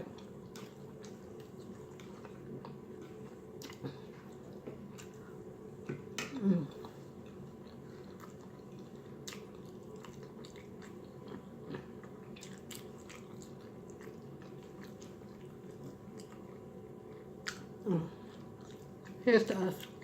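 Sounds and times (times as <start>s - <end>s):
close-miked chewing: 0.0s - 5.5s, 6.2s - 20.0s
faint hum: 0.0s - 20.0s.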